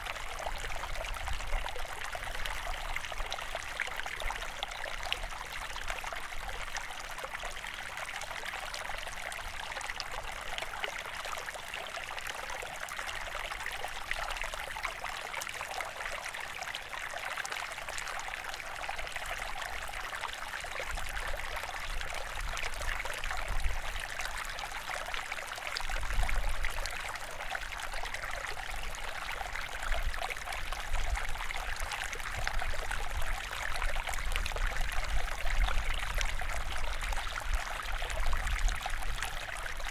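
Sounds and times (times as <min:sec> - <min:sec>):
rush of running water: 0:00.0 - 0:39.9.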